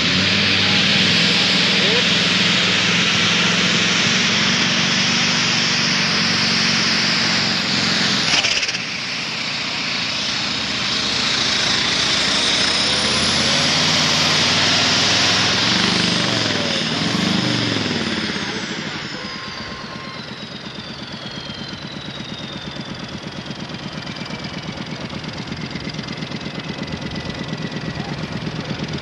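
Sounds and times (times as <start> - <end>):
tractor engine running flat out: 0.0 - 29.0.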